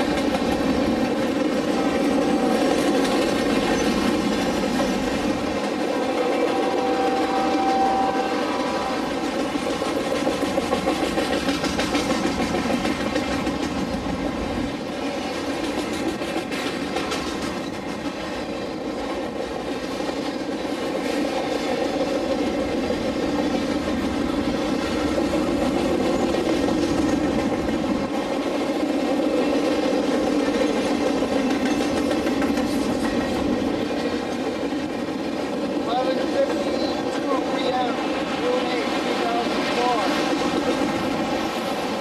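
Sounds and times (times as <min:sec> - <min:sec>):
freight train cars rumbling past: 0:00.0 - 0:42.0
wheels clacking over rail joints: 0:00.0 - 0:42.0.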